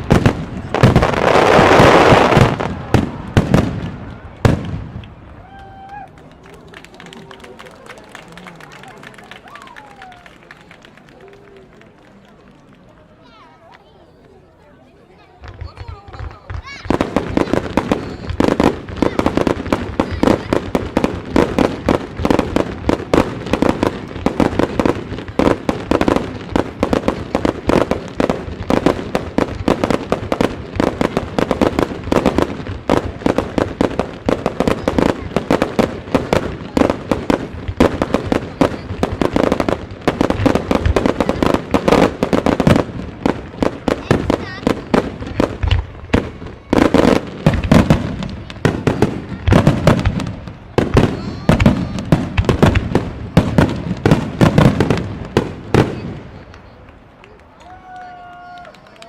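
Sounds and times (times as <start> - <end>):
fireworks launching and bursting: 0.0 - 10.6, 15.3 - 59.0.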